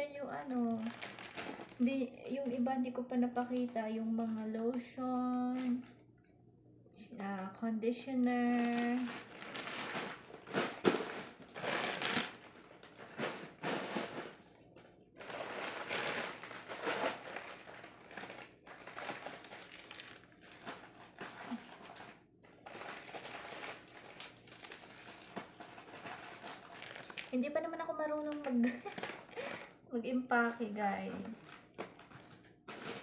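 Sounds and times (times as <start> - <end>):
plastic wrappers crinkling: 0.2 - 6.1, 8.0 - 33.0.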